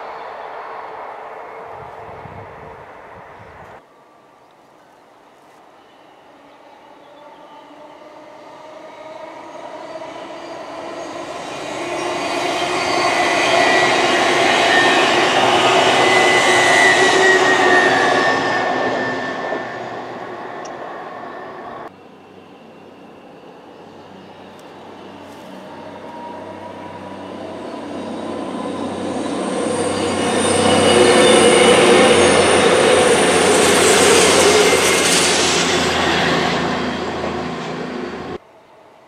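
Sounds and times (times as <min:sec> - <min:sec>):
train passing at speed: 0:00.0 - 0:03.8, 0:05.8 - 0:39.0.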